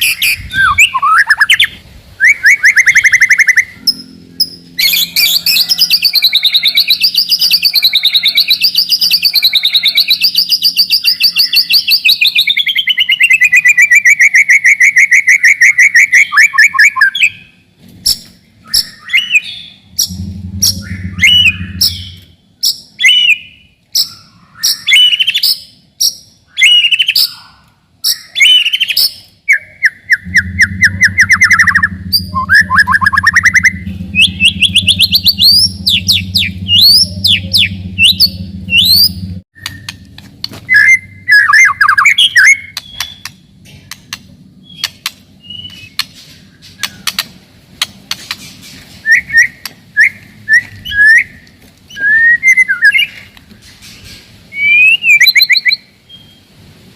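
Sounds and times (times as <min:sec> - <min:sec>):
bird singing: 0:00.0 - 0:48.4, 0:49.0 - 0:53.6, 0:54.5 - 0:56.5.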